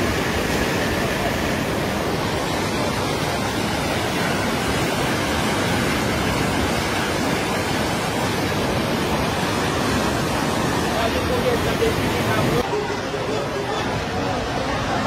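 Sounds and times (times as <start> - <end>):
floodwater rushing roar: 0.0 - 15.0.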